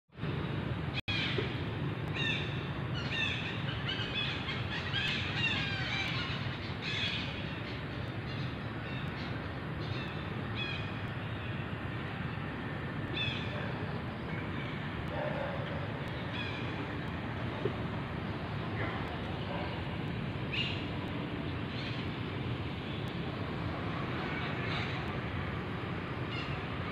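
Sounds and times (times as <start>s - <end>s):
low background noise: 0.2s - 26.9s.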